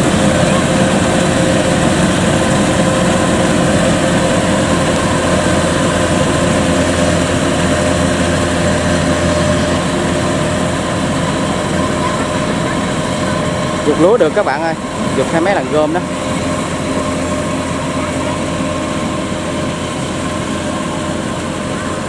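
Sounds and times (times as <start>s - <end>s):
combine harvester engine drone: 0.0s - 22.0s
constant machine whine: 0.0s - 22.0s.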